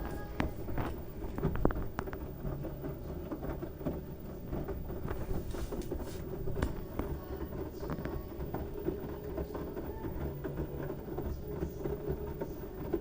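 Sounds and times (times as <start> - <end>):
washing machine drum rumble: 0.0 - 13.0.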